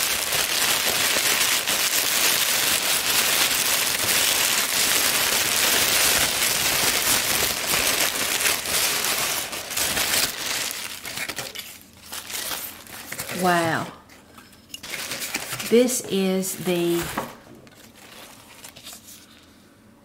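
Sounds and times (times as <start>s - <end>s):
tissue paper crinkling: 0.0s - 13.7s, 14.8s - 15.8s, 17.7s - 19.6s.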